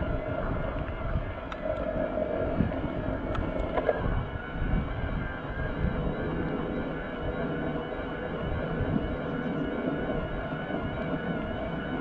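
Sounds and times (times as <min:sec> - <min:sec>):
electric bike motor whining: 0:00.0 - 0:12.0
low rumble: 0:00.0 - 0:12.0.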